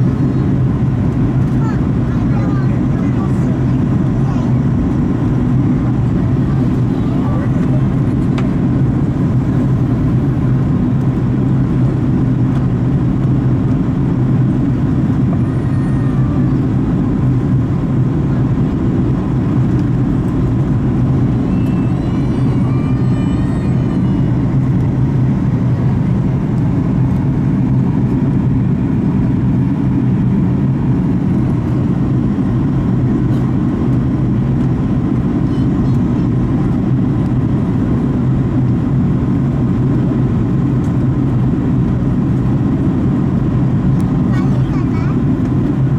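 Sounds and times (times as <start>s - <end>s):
airplane cabin drone: 0.0s - 45.9s.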